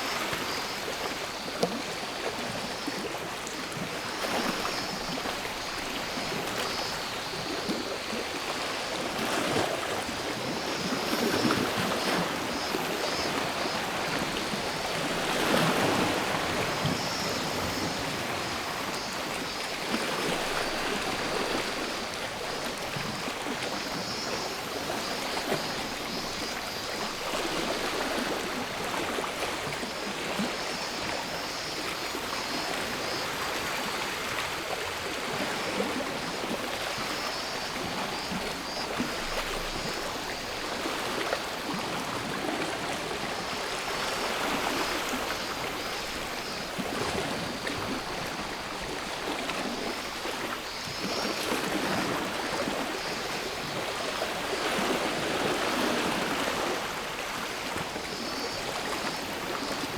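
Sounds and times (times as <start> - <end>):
cicadas buzzing: 0.0 - 1.9, 4.0 - 9.1, 9.8 - 34.7, 36.3 - 41.9, 43.2 - 55.7.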